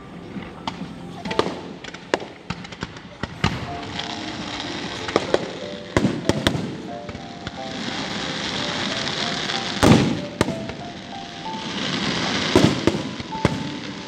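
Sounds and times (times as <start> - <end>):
crackling hiss of fireworks: 0.0 - 14.0
firework bangs: 0.0 - 14.0.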